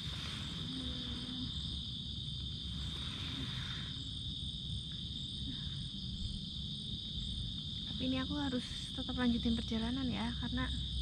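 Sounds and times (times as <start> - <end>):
low rumbling background noise: 0.0 - 11.0
night insects chirring: 0.0 - 11.0.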